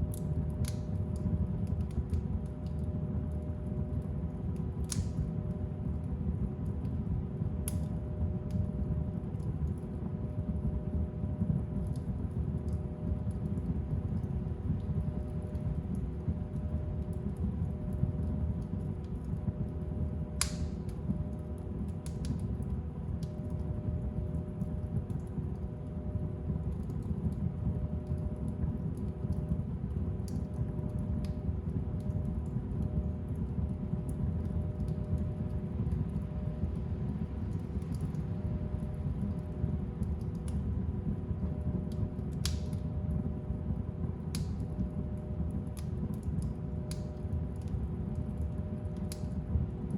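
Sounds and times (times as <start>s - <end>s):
fire crackling in a fireplace: 0.0s - 49.9s.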